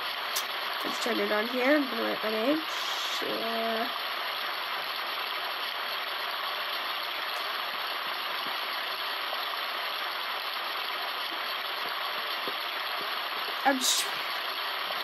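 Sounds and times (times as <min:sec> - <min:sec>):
white noise machine hiss: 0:00.0 - 0:15.0.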